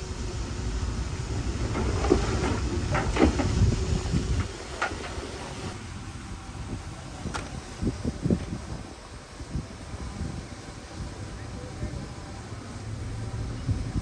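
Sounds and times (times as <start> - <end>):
diesel machinery rumbling: 0.0 - 14.0.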